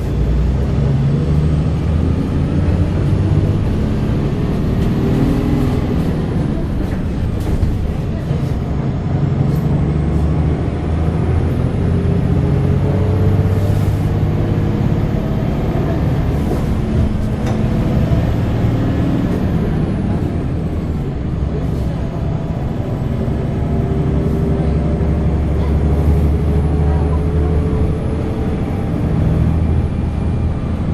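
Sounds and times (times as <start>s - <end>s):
bus diesel engine running: 0.0s - 30.9s.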